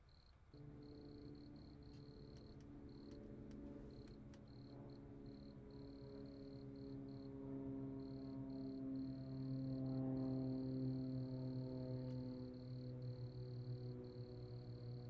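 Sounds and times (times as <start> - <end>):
cricket chirping: 0.0 - 15.0
low drone of held notes: 0.0 - 15.0.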